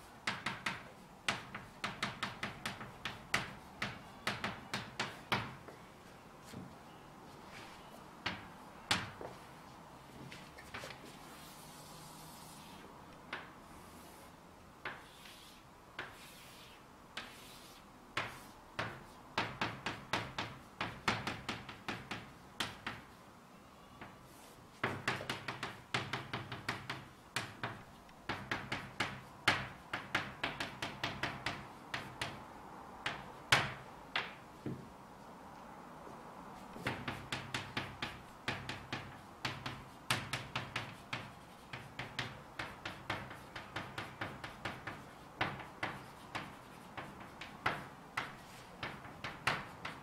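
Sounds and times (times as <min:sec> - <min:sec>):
chalk tapping and scratching on blackboard: 0:00.0 - 0:09.5, 0:10.1 - 0:23.2, 0:24.0 - 0:34.8, 0:36.6 - 0:50.0.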